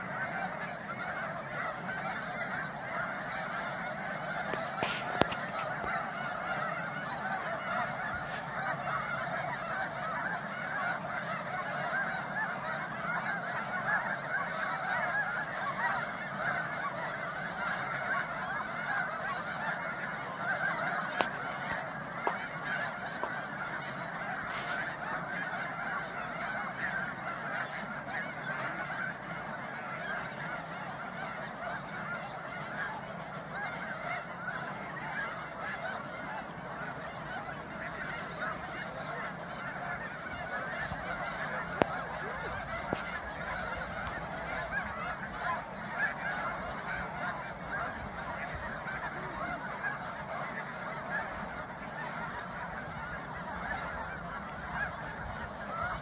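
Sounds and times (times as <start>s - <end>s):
flock of geese honking: 0.0s - 56.0s.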